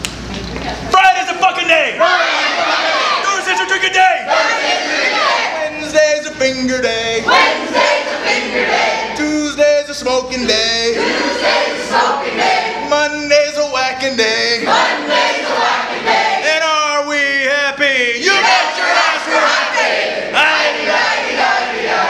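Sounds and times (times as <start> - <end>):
group singing and shouting a chant: 1.9 - 22.0.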